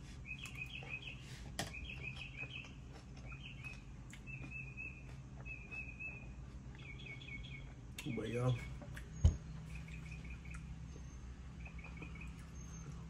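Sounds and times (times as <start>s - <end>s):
steady low hum: 0.0s - 13.0s
bird chirping: 0.2s - 13.0s.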